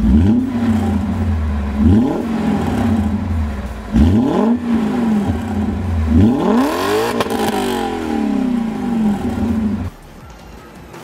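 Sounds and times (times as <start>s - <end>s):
synthetic engine revving: 0.0s - 10.2s.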